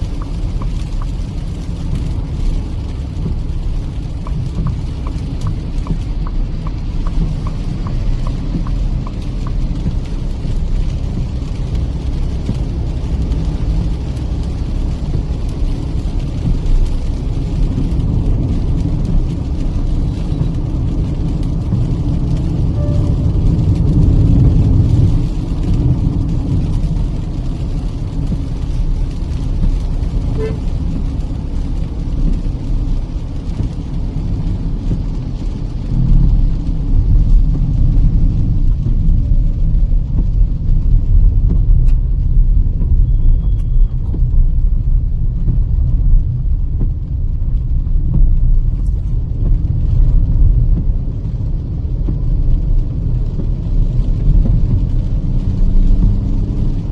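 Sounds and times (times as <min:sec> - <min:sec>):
car engine rumble: 0:00.0 - 0:56.9
tyres on the road: 0:00.0 - 0:56.9.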